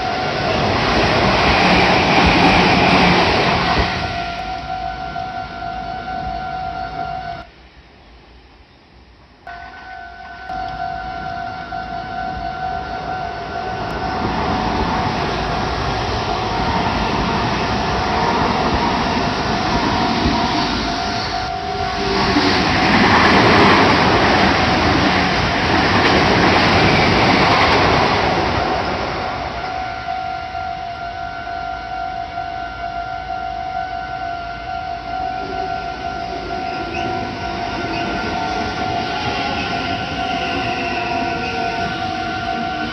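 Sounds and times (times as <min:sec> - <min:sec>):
level crossing warning bell: 0:00.0 - 0:07.5, 0:09.5 - 0:42.9
electric train passing: 0:00.0 - 0:42.9.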